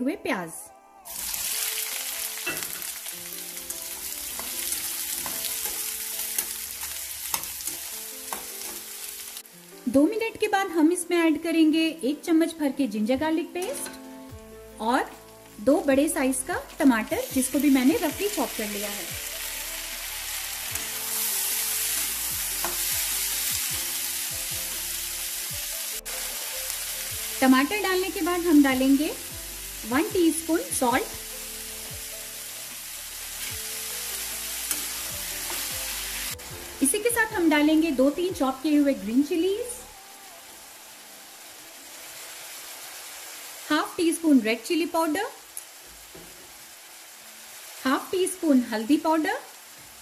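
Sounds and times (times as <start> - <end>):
onion sizzling in hot oil: 1.1 - 11.5, 13.4 - 50.0.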